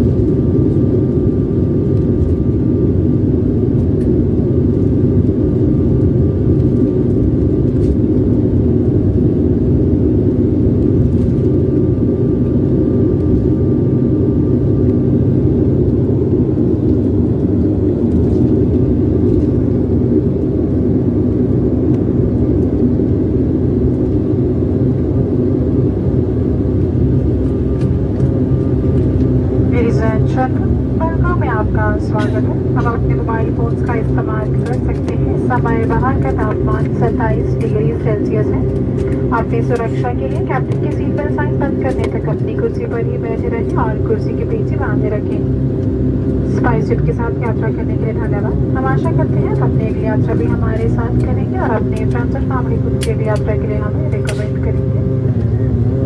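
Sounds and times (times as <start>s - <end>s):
airliner engines droning: 0.0s - 56.0s.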